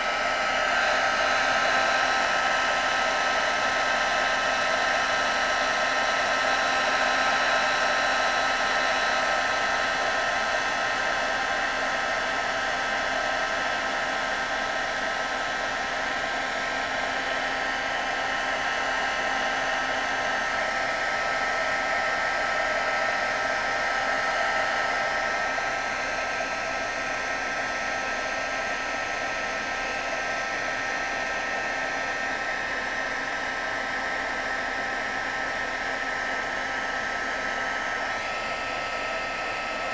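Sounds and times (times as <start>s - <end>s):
high fan motor whine: 0.0s - 39.9s.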